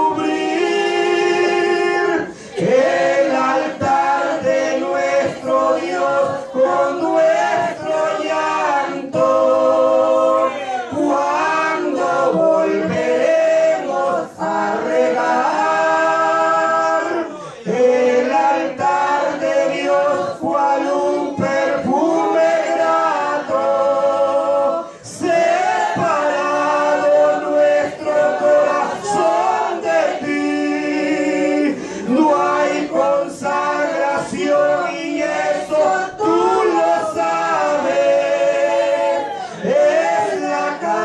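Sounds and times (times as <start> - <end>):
man and woman singing a hymn: 0.0 - 41.0.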